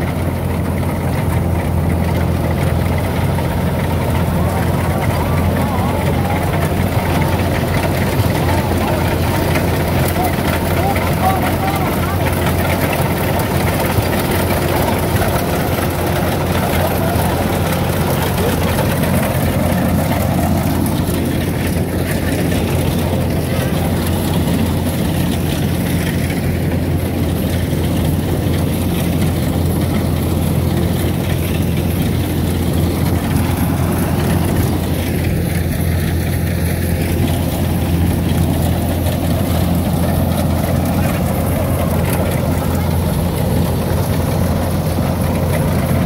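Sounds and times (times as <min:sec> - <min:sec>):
combine harvester engine running: 0:00.0 - 0:46.0.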